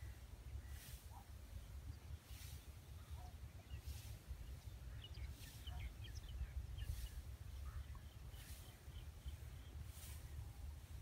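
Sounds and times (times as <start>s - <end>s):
faint high hiss: 0.0s - 11.0s
wind rumbling on microphone: 1.4s - 11.0s.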